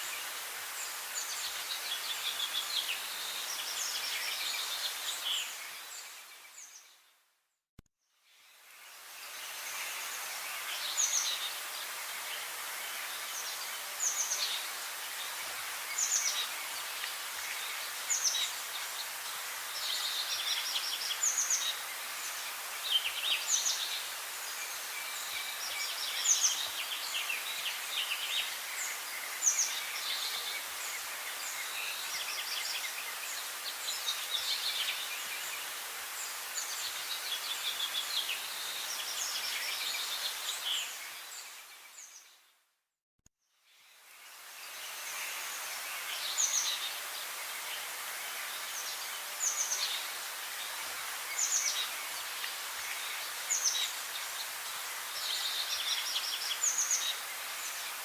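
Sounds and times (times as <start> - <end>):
steady background hiss: 0.0 - 7.0, 8.3 - 42.2, 43.7 - 58.0
songbirds singing: 8.1 - 42.5, 43.7 - 58.0.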